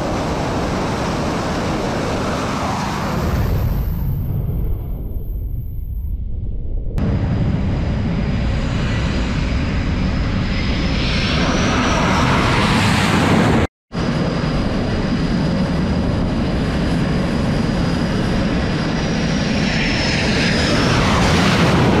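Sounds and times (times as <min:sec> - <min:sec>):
jet engines at full power: 0:00.0 - 0:22.0.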